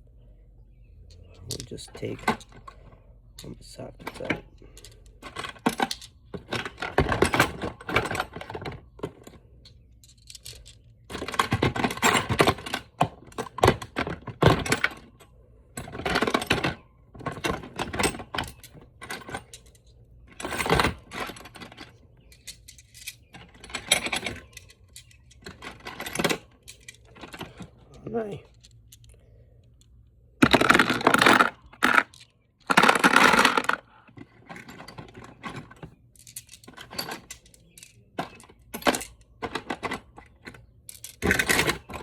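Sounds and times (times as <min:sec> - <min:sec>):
metal sockets clinking and rattling: 0:00.7 - 0:42.0.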